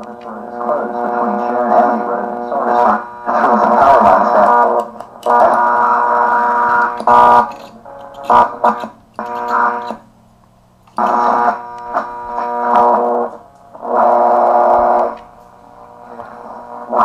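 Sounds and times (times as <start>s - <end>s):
radio crackles: 0.0s - 10.1s, 10.9s - 17.0s
radio buzzing hum: 0.0s - 10.3s, 10.9s - 17.0s.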